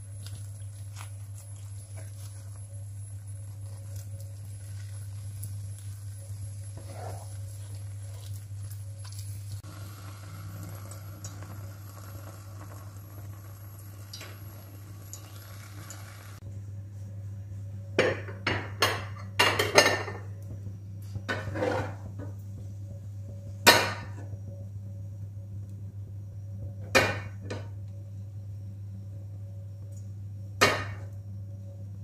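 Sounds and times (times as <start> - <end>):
low hum: 0.0 - 19.5, 20.2 - 32.0.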